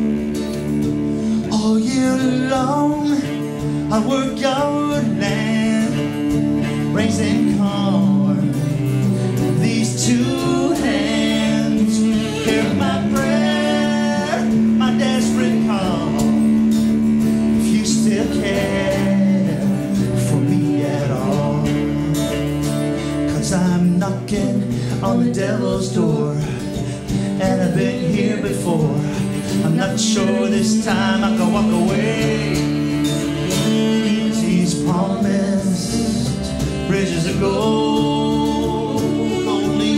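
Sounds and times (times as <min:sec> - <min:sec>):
acoustic guitar and cello folk song: 0:00.0 - 0:39.9.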